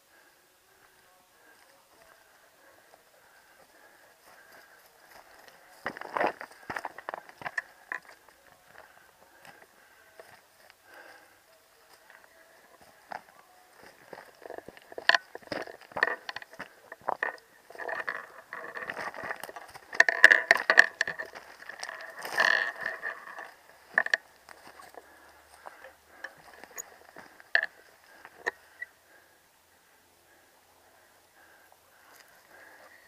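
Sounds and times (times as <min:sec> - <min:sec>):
dry brush rustling and crackling: 0:00.2 - 0:28.9.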